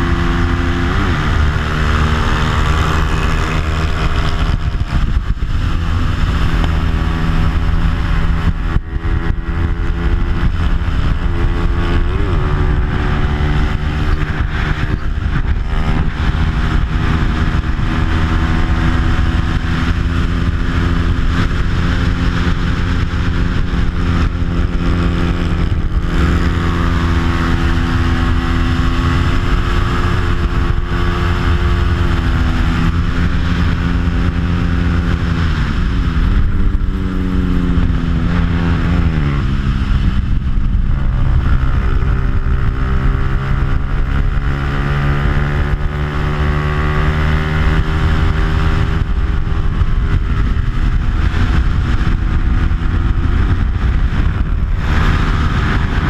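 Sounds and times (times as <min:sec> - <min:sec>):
motorcycle engine revving hard: 0:00.0 - 0:56.0
wind noise: 0:00.0 - 0:56.0.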